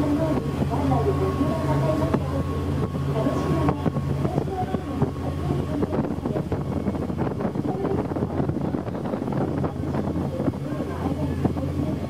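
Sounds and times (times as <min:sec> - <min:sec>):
boat engine droning: 0:00.0 - 0:12.0
water rushing past hull: 0:00.0 - 0:12.0
wind buffeting microphone: 0:00.0 - 0:12.0.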